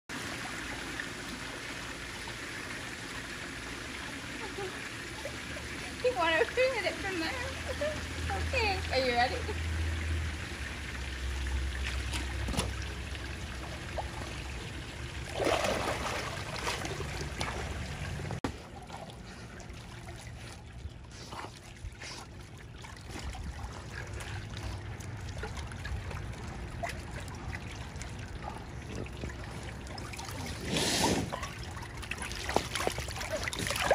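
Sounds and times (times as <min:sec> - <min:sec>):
pool water lapping: 0:00.1 - 0:33.9
water splashes: 0:00.1 - 0:33.9.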